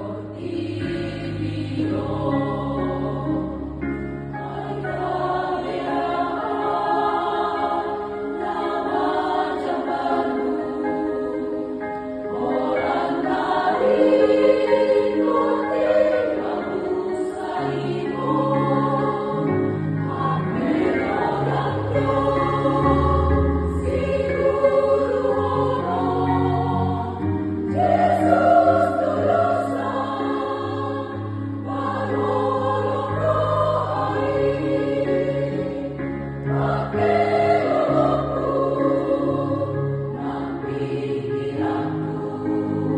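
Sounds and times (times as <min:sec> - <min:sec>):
women's choir singing a hymn: 0:00.0 - 0:42.9.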